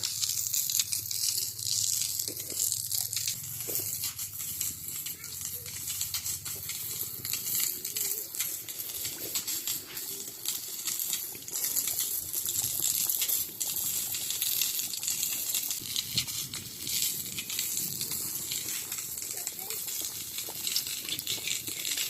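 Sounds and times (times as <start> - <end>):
dough sizzling in hot oil: 0.0 - 22.0
oil crackling: 0.0 - 22.0.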